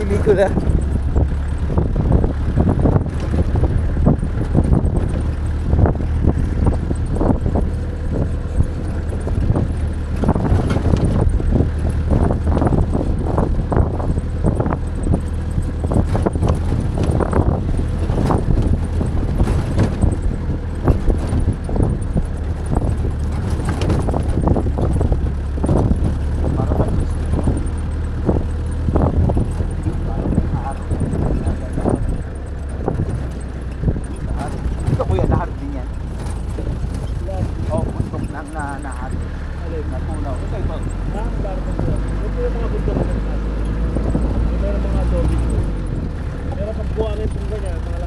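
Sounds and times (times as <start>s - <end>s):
vehicle engine drone: 0.0s - 48.0s
vehicle rattling over stones: 0.0s - 48.0s.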